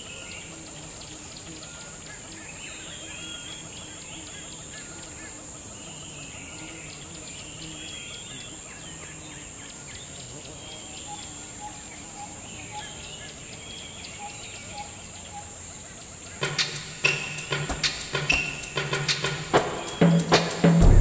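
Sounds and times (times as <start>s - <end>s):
birds chirping and trilling: 0.0s - 20.8s
insect drone: 0.0s - 21.0s.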